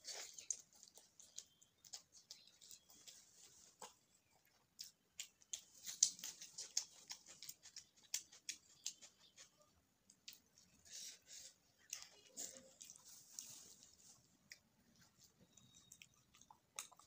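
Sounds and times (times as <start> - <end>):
food crackling while chewed: 0.0 - 17.0.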